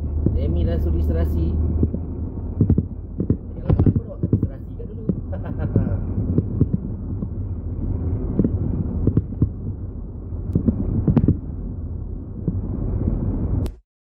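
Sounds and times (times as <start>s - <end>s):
car cabin rumble: 0.0s - 13.8s.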